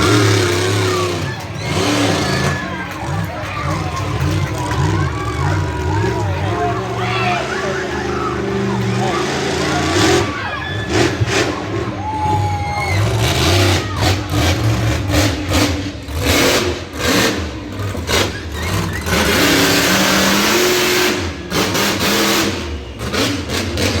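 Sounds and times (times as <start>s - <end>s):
truck engine revving hard: 0.0s - 24.0s.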